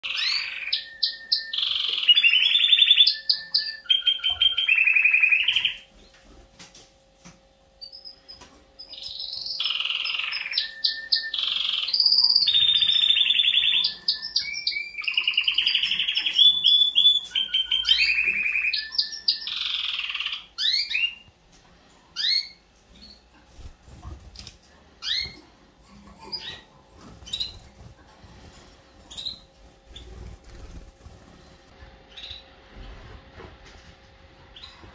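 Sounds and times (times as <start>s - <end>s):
canary singing trills: 0.0s - 6.1s, 7.8s - 21.4s, 22.2s - 32.5s.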